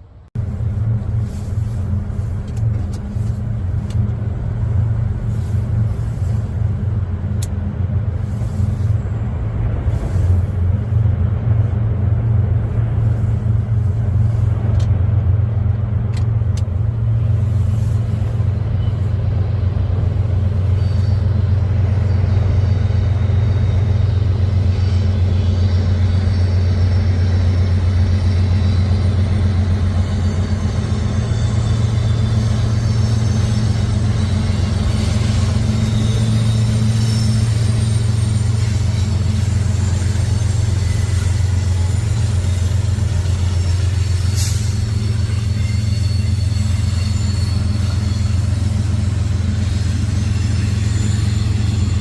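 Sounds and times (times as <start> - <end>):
low engine rumble: 0.0 - 52.0.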